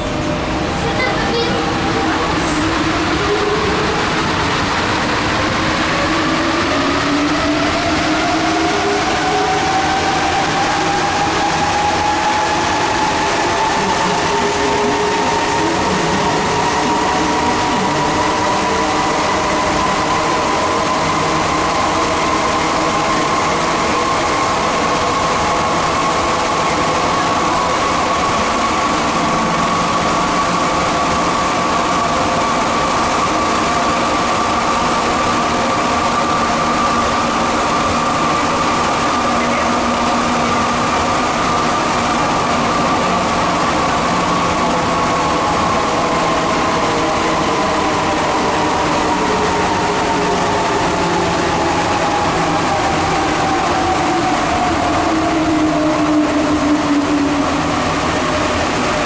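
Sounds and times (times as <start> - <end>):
train motor whine: 0.0 - 59.0
train running noise: 0.0 - 59.0.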